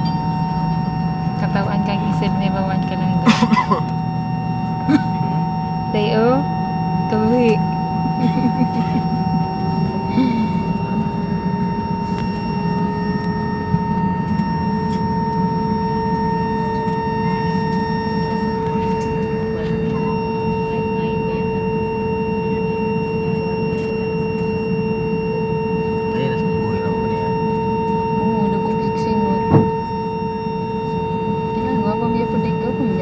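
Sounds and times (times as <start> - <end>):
jet cabin engine drone: 0.0 - 33.0
steady whine: 0.0 - 33.0.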